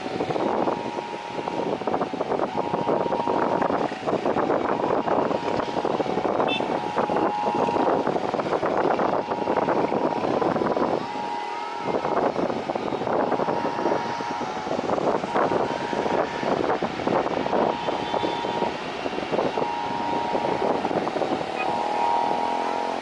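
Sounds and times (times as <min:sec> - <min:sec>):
jet engines whining: 0:00.0 - 0:23.0
wind buffeting microphone: 0:00.0 - 0:23.0.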